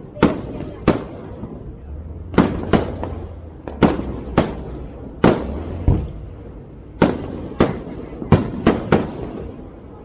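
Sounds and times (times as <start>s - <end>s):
faint fireworks pops: 0.0s - 9.8s
fireworks shells booming: 0.0s - 9.8s.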